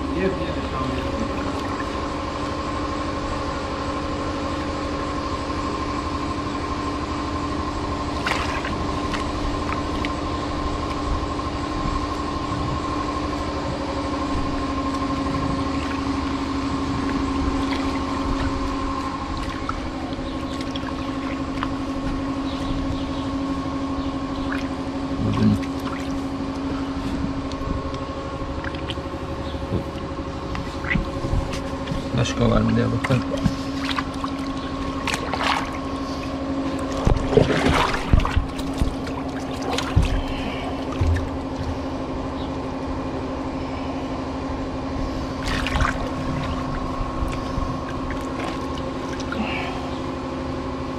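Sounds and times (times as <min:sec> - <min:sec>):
steady motor hum: 0:00.0 - 0:50.9.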